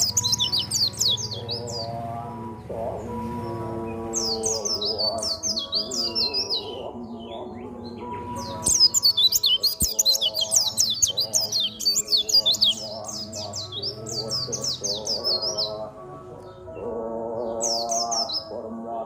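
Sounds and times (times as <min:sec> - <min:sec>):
background music: 0:00.0 - 0:19.0
bird twittering song: 0:00.0 - 0:19.0.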